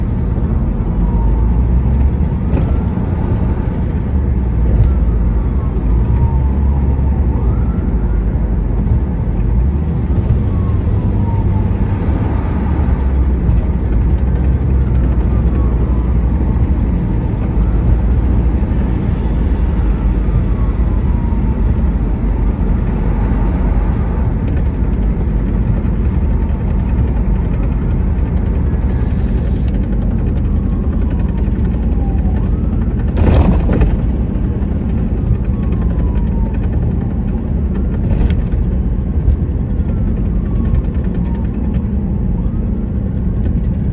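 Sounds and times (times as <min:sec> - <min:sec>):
car engine rumble and road noise: 0:00.0 - 0:43.9.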